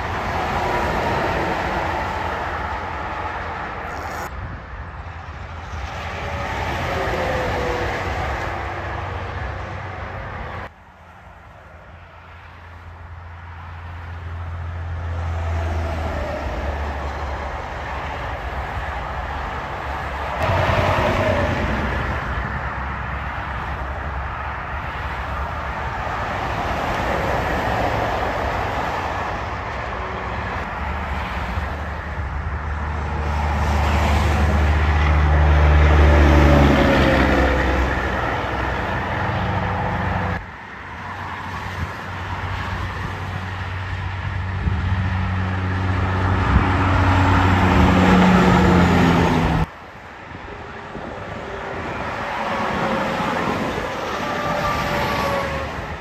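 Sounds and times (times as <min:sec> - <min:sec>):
trucks passing on highway: 0:00.0 - 0:56.0.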